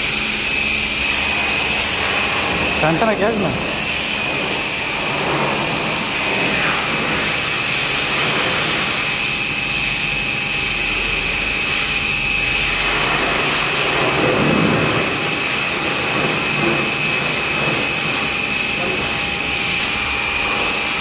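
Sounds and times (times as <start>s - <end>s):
machine hiss with high whine: 0.0s - 21.0s.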